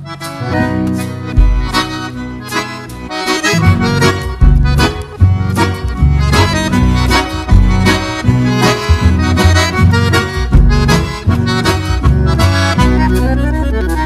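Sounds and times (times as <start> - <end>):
upbeat accordion music: 0.0 - 14.0.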